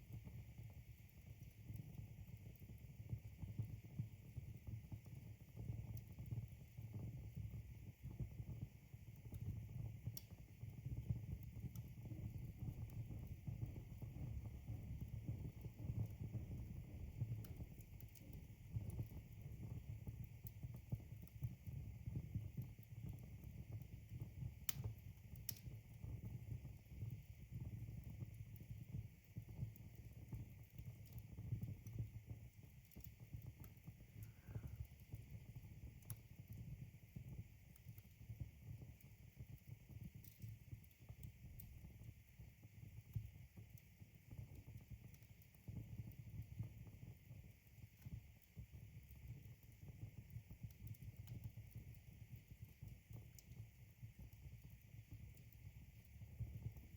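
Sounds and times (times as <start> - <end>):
logs burning in a fireplace: 0.0 - 56.9.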